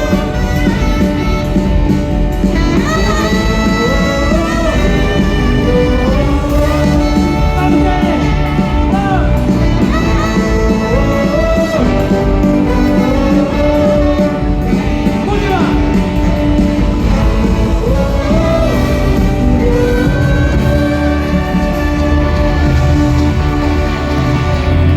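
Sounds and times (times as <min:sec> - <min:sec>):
live rock band playing: 0:00.0 - 0:24.9
pitch-bending melody line: 0:00.0 - 0:24.9.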